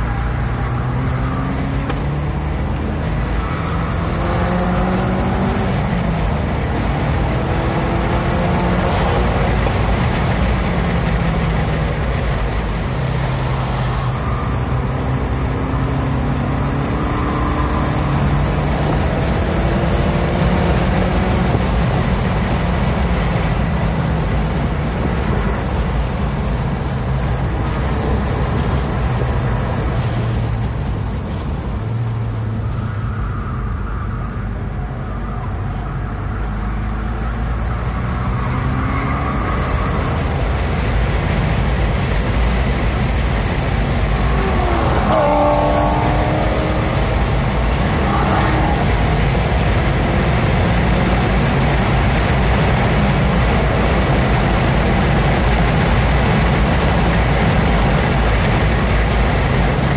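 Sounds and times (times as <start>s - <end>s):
car engine at full throttle: 0.0s - 59.9s
wind and tyre noise: 0.0s - 59.9s.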